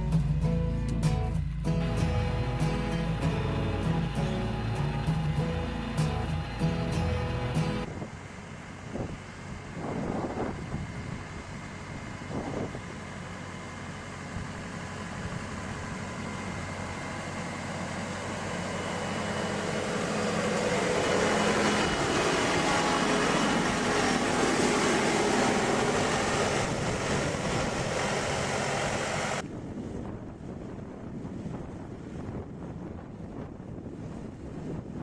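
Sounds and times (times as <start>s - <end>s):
heavy machine engine droning: 0.0s - 35.0s.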